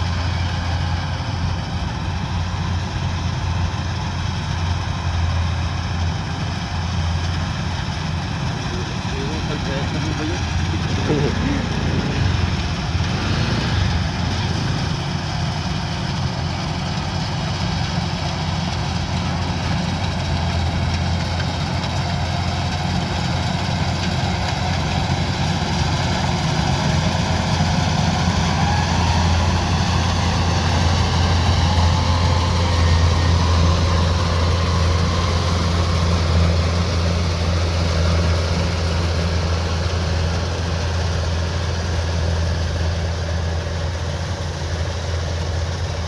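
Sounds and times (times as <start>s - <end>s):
diesel engine humming: 0.0s - 46.0s.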